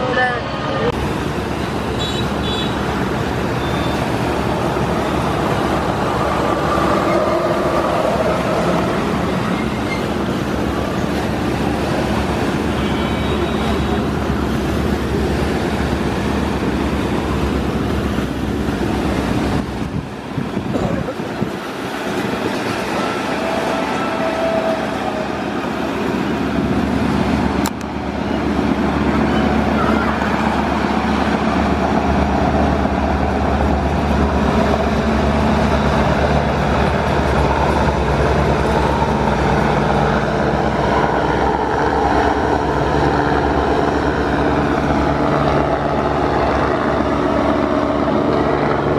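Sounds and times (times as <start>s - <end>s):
boat diesel engine humming: 0.0s - 48.9s.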